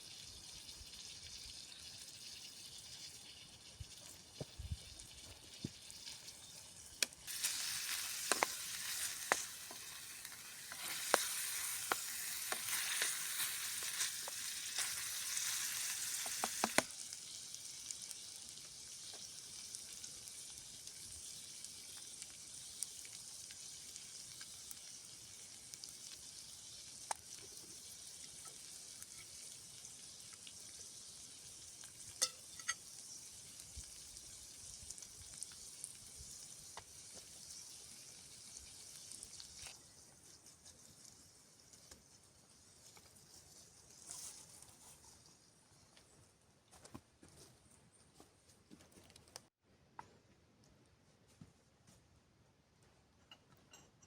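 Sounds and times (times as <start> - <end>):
livers sizzling in a dish: 0.0 - 46.5.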